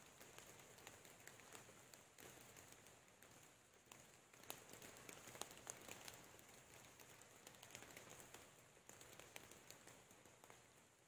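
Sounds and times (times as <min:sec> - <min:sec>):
light rain hiss: 0:00.0 - 0:11.0
raindrops tapping on leaves: 0:00.0 - 0:11.0.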